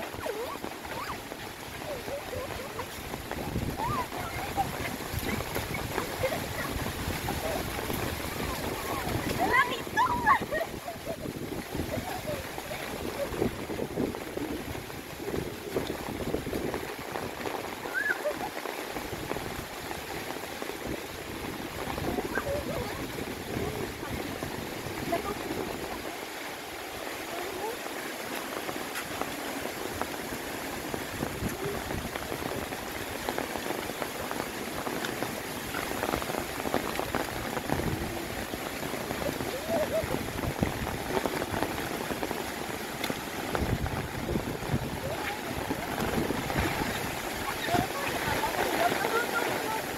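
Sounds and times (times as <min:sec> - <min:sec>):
heavy rain on trees: 0:00.0 - 0:49.9.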